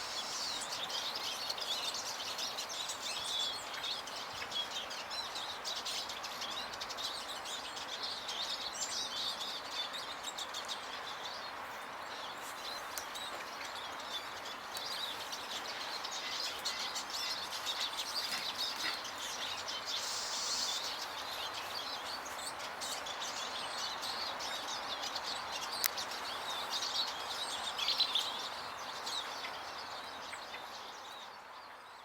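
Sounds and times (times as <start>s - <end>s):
songbirds twittering and chirping: 0.0s - 32.0s
steady background hiss: 0.0s - 32.0s.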